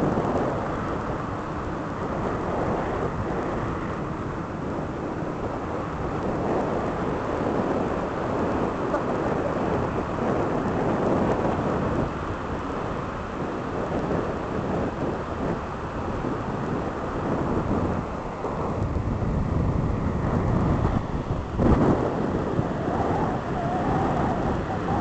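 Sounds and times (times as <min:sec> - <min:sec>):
sea waves breaking on beach: 0:00.0 - 0:25.0.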